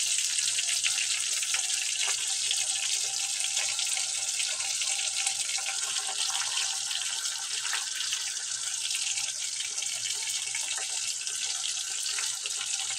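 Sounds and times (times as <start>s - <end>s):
meat sizzling in hot oil: 0.0s - 12.9s.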